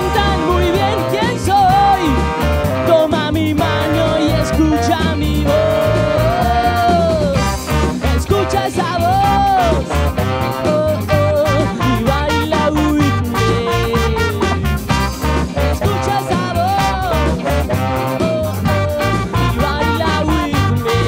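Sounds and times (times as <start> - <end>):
live band playing: 0.0 - 21.0
tenor saxophone melody: 0.0 - 21.0.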